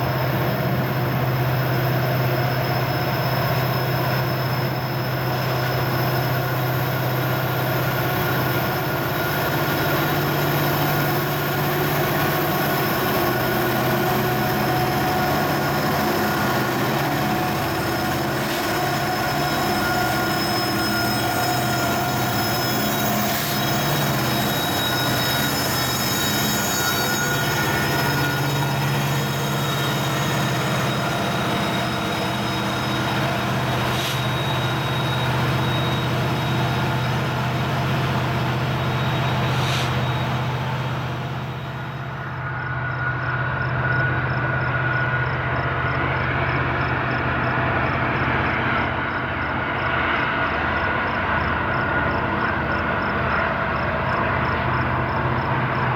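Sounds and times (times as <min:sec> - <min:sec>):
train wheels squealing on rail: 0:00.0 - 0:55.9.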